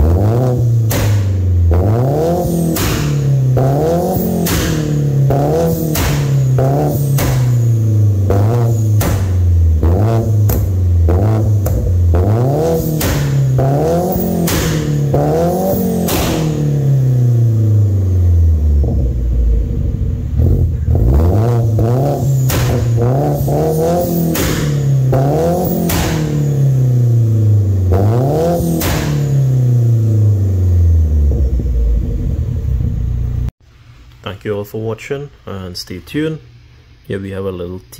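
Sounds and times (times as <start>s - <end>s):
car engine revving: 0.0s - 33.6s
sharp noise at top of rev: 0.4s - 18.1s, 19.2s - 32.8s.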